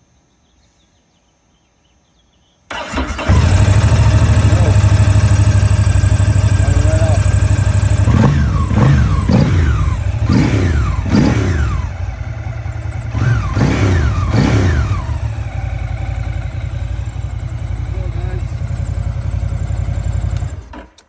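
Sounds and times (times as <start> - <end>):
motorcycle engine idling: 2.7 - 21.0
motorcycle engine revving: 2.7 - 21.0.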